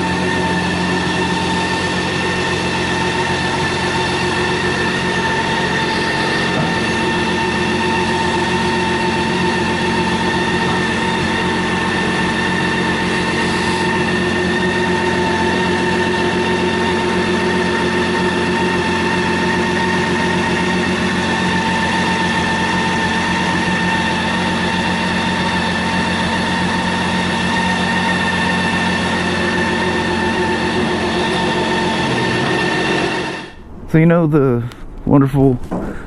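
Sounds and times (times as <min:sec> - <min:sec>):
machine drone with whine: 0:00.0 - 0:36.0.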